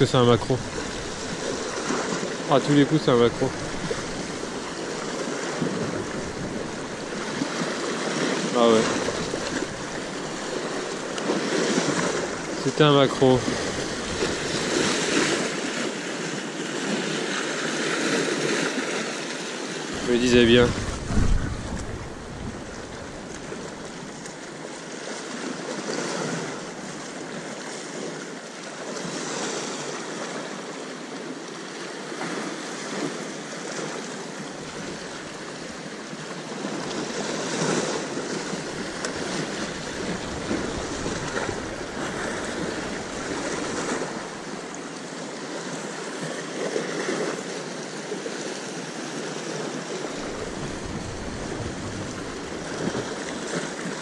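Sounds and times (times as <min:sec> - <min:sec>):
waves breaking and washing in: 0:00.0 - 0:54.0.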